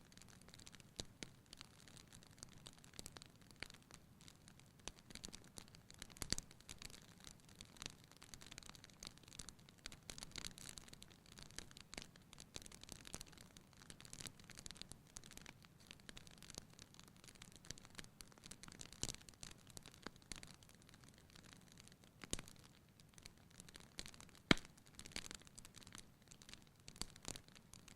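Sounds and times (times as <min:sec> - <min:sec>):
wood fire crackling and popping: 0:00.2 - 0:27.9.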